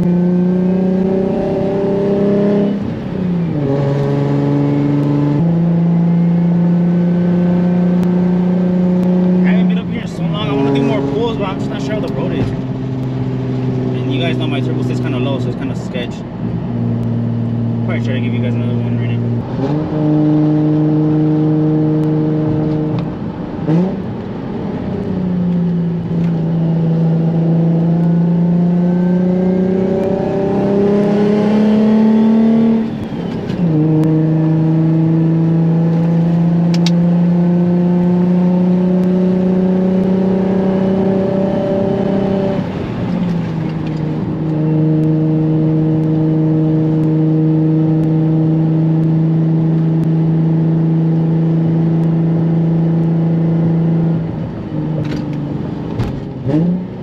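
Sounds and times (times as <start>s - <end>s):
car engine while driving: 0.0s - 57.0s.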